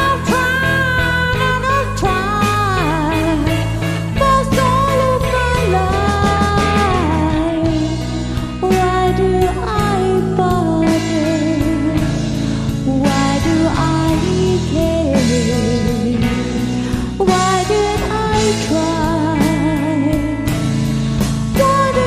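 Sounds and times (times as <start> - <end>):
person singing with vibrato: 0.0 - 20.8, 21.4 - 22.0
backing track with steady beat: 0.0 - 22.0.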